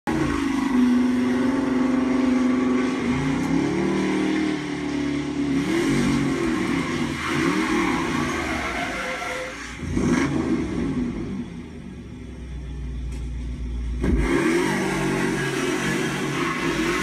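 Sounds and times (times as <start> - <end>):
car engine revving: 0.0 - 12.2, 13.7 - 17.0.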